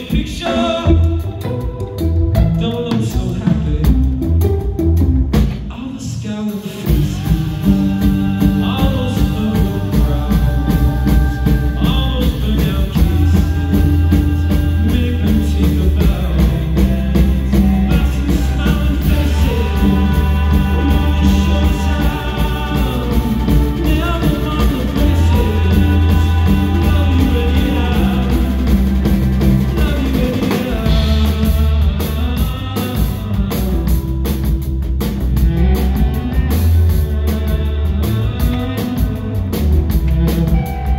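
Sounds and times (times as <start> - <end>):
person singing: 0.0 - 4.6, 5.6 - 34.6, 35.4 - 40.9
bass: 0.0 - 40.9
drums: 0.0 - 40.9
guitar: 0.0 - 40.9.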